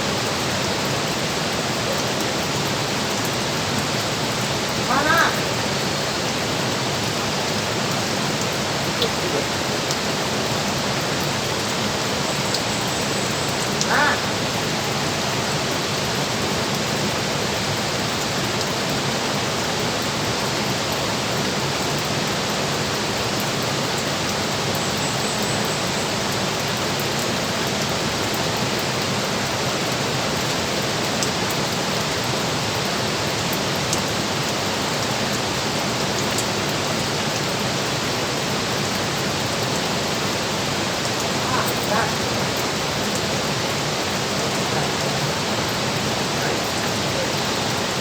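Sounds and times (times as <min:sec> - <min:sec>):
water rushing through dam: 0:00.0 - 0:48.0.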